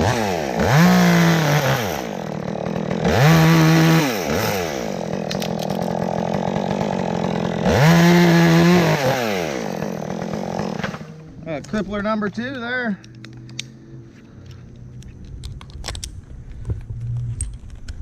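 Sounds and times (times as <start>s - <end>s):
chainsaw revving and idling: 0.0s - 15.1s.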